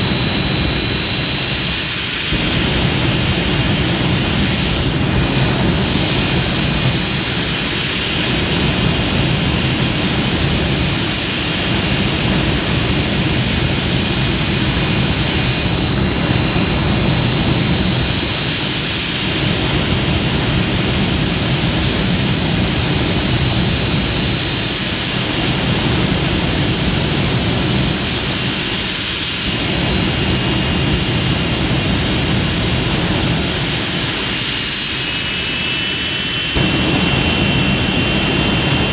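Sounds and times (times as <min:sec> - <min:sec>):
jet engine roar: 0:00.0 - 0:38.9
turbine whine: 0:00.0 - 0:38.9.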